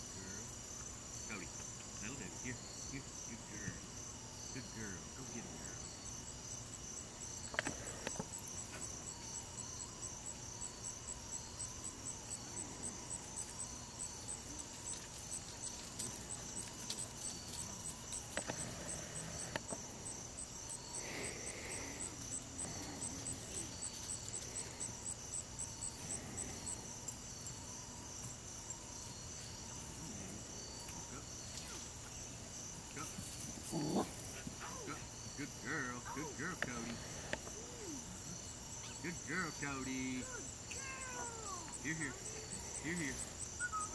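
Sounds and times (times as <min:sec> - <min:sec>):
insects chirping: 0:00.0 - 0:43.9.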